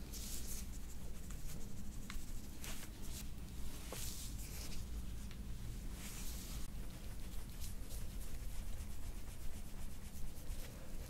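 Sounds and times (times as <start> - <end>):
scratchy hair rustling: 0.0 - 11.0.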